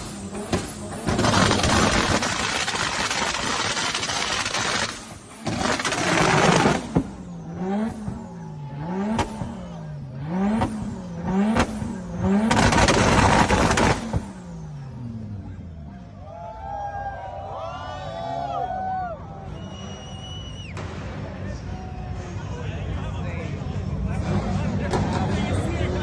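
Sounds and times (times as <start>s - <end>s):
car engine revving: 0.0s - 16.2s, 20.8s - 26.0s.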